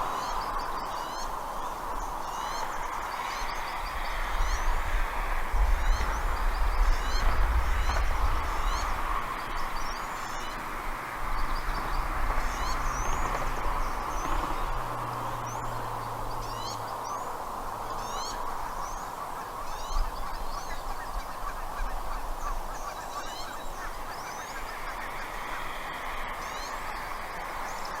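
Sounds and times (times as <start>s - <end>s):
birds calling: 5.6s - 28.0s.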